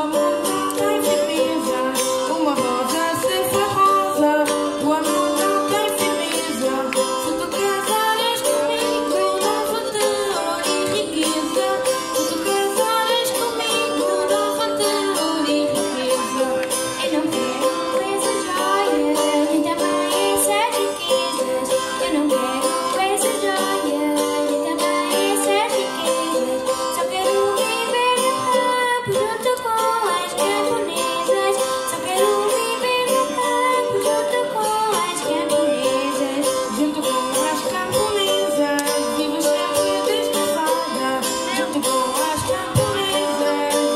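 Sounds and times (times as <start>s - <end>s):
group singing: 0.0s - 43.9s
plucked small guitars: 0.0s - 43.9s.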